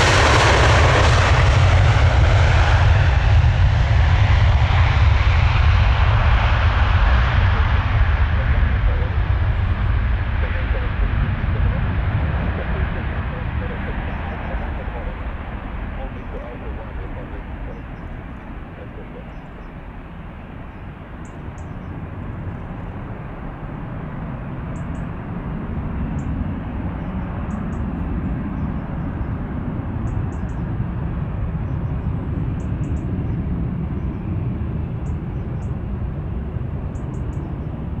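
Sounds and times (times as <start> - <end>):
jet engines roaring at takeoff: 0.0 - 38.0.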